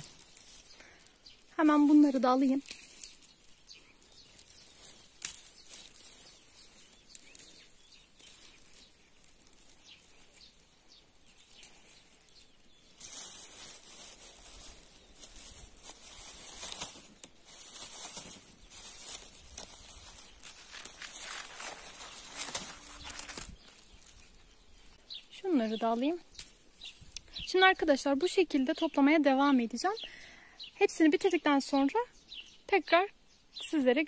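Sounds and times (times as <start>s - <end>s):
rustling pine branches: 0.0s - 28.5s.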